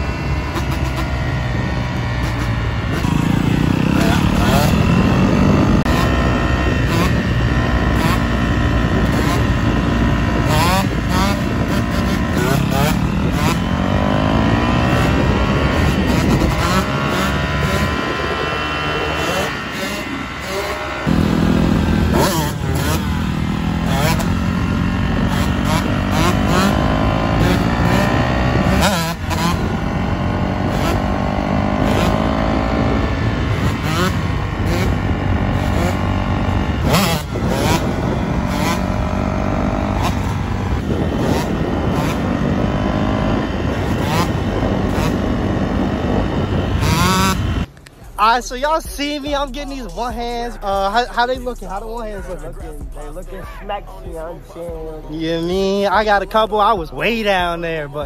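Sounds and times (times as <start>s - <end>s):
two-stroke dirt bike engine revving: 0.0s - 47.7s, 54.2s - 58.0s.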